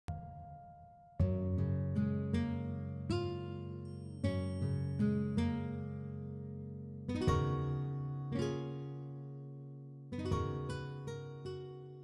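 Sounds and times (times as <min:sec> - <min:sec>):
plucked guitar notes: 0:00.1 - 0:12.0.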